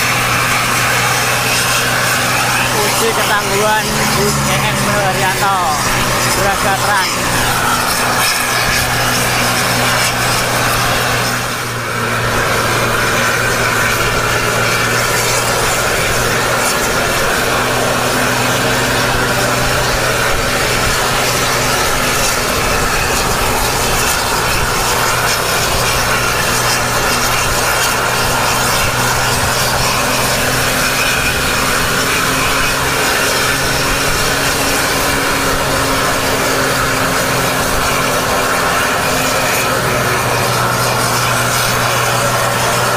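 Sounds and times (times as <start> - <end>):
diesel bus engine pulling uphill: 0.0 - 42.9
steady rushing noise: 0.0 - 42.9.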